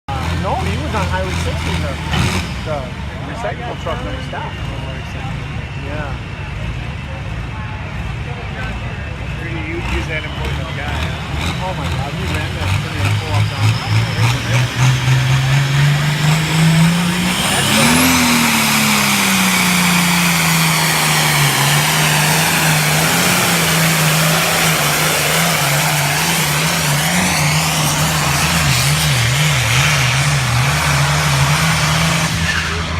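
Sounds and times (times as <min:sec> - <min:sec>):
tractor engine running hard: 0:00.0 - 0:32.9.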